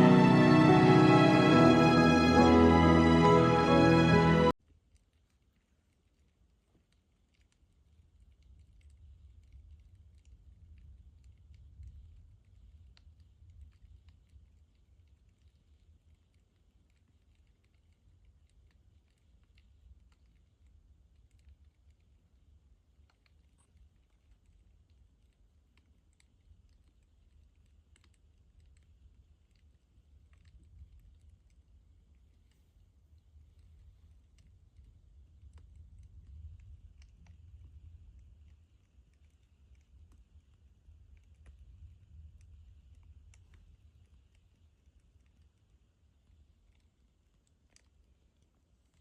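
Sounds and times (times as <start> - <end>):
low steady hum: 0.0 - 49.0
faint small clicks and taps: 4.6 - 49.0.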